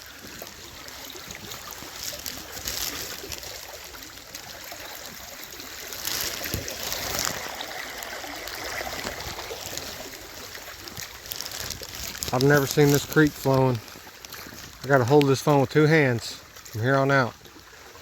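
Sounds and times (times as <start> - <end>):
boots wading through water: 0.0 - 18.0
creek water running: 0.0 - 18.0.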